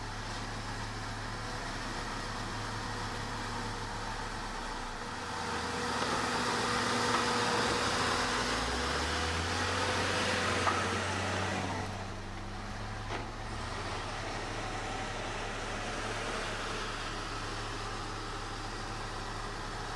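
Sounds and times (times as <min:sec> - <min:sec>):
heavy diesel engine running: 0:00.0 - 0:19.9.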